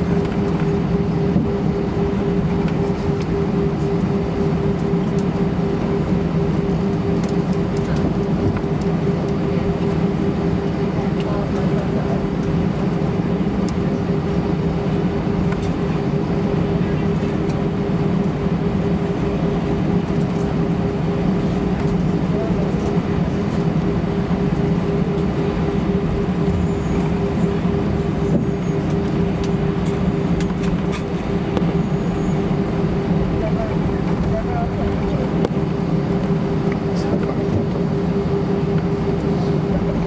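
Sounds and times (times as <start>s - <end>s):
jet engines idling: 0.0s - 40.0s.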